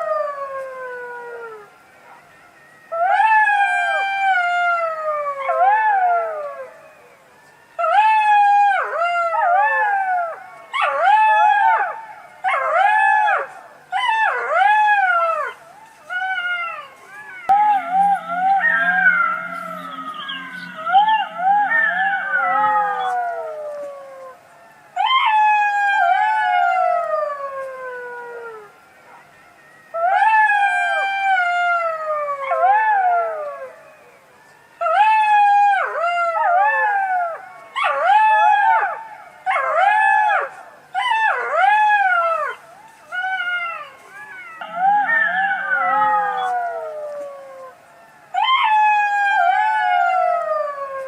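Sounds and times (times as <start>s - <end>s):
fox howling and yelping: 0.0s - 7.2s, 7.8s - 51.0s.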